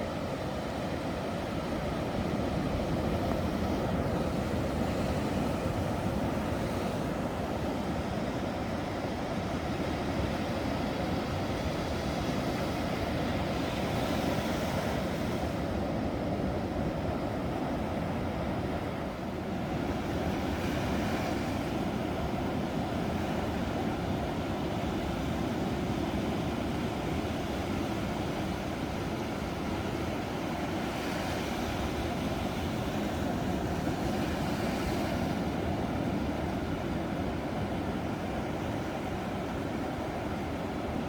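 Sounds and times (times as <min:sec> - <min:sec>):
ocean waves breaking: 0:00.2 - 0:41.0.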